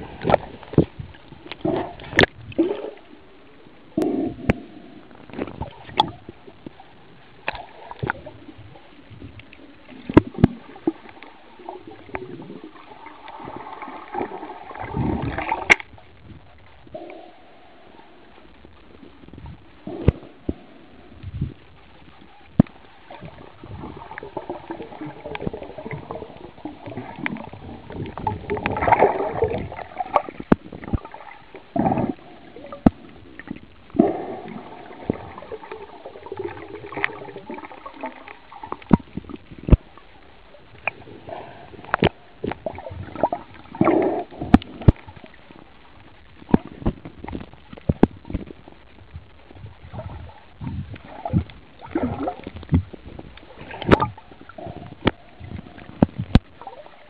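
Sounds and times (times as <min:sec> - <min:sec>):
underwater gurgling and sloshing: 0:00.0 - 0:57.0.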